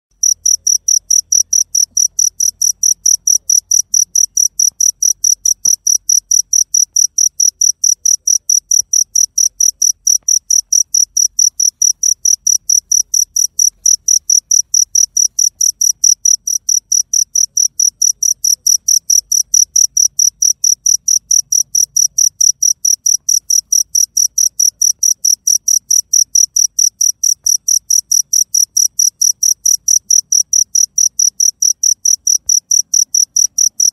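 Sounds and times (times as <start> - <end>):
cricket chirping: 0.1 - 33.9.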